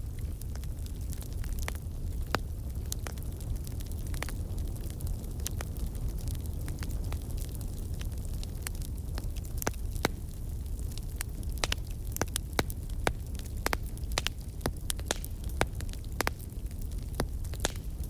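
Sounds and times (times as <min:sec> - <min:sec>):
fire crackling and popping: 0:00.0 - 0:18.0
low rumble of burning: 0:00.0 - 0:18.0.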